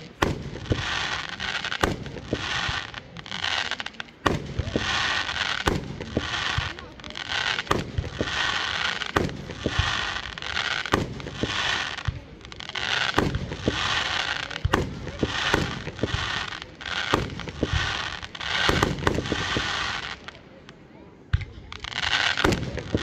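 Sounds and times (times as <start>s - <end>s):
fireworks bangs: 0.0s - 23.0s
fireworks hissing crackle: 0.0s - 23.0s.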